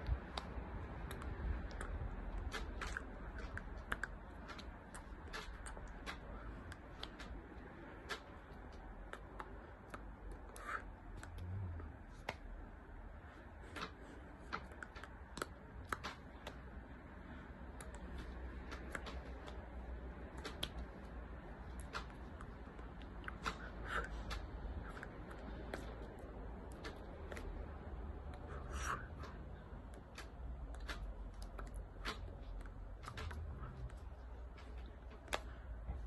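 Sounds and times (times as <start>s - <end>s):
soft clicks and taps of hands: 0.0s - 12.7s, 13.7s - 17.0s, 17.7s - 36.0s
low background rumble: 0.0s - 36.0s.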